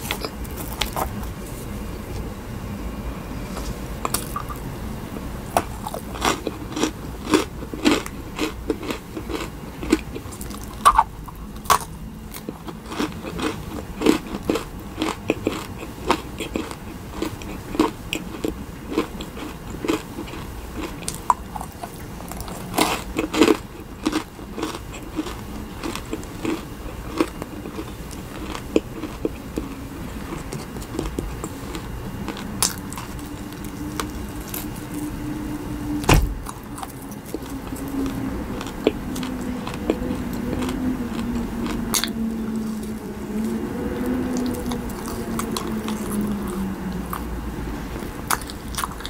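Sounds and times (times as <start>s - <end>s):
close-miked chewing: 0.0s - 2.3s, 3.5s - 35.2s, 36.4s - 49.0s
low steady hum: 0.0s - 49.0s.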